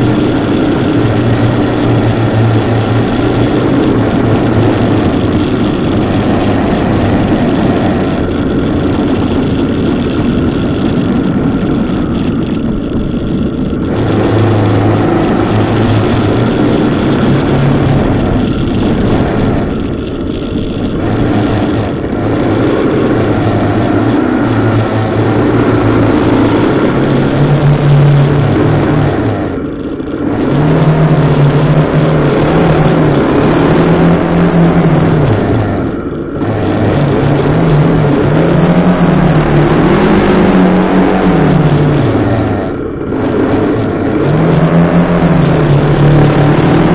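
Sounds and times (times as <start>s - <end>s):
motorcycle engine running: 0.0s - 46.9s
road noise: 0.0s - 46.9s
rushing wind: 0.0s - 46.9s.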